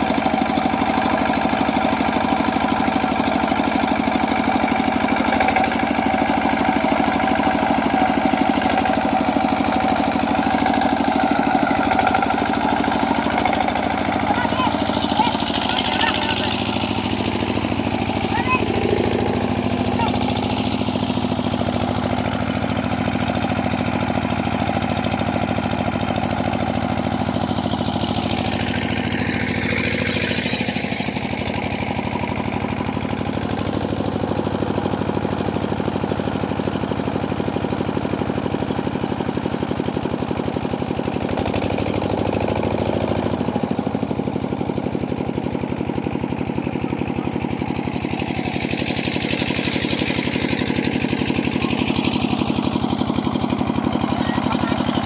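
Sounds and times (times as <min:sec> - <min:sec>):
diesel pump engine running: 0:00.0 - 0:55.0.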